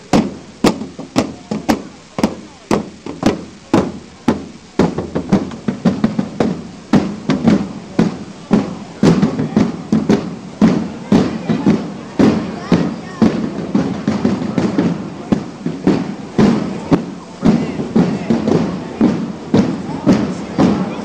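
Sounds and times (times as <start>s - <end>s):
field drums beating a march: 0.0s - 21.0s.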